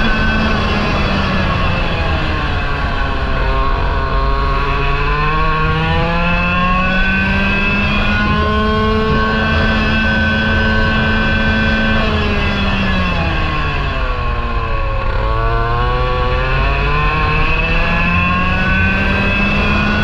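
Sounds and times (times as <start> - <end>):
kart engine revving: 0.0 - 20.0.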